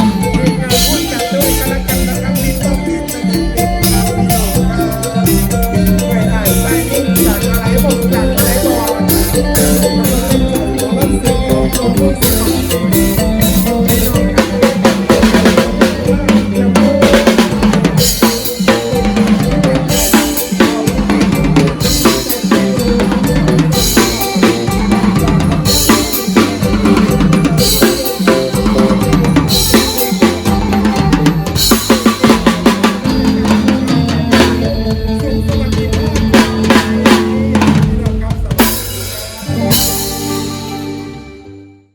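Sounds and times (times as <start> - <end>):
drum kit groove: 0.0 - 41.4
bass line: 0.0 - 41.9.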